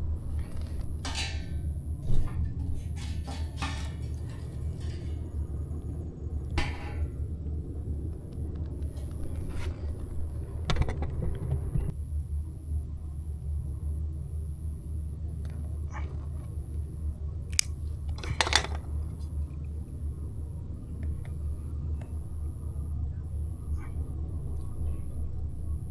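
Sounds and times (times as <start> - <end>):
low fire rumble: 0.0 - 25.9.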